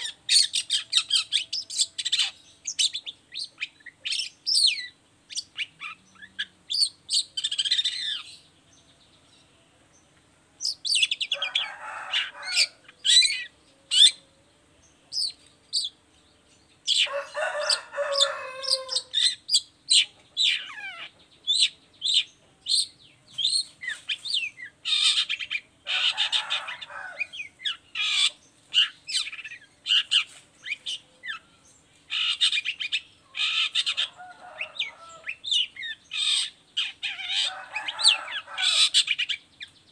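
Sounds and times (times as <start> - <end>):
bird harsh rasping calls: 0.0 - 8.4, 10.6 - 14.3, 16.8 - 31.5, 32.1 - 39.7.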